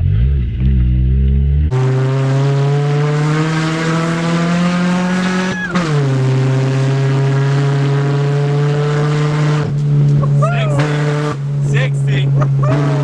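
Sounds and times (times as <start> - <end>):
car engine accelerating: 0.0 - 13.0
tyre and road noise: 0.0 - 13.0.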